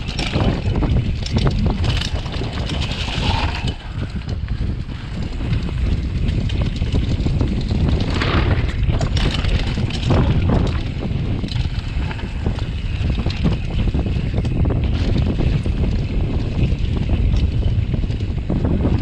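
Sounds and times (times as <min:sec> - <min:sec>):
bike clattering over bumps: 0:00.0 - 0:19.0
bike tyres on dirt and leaves: 0:00.0 - 0:19.0
wind buffeting microphone: 0:00.0 - 0:19.0.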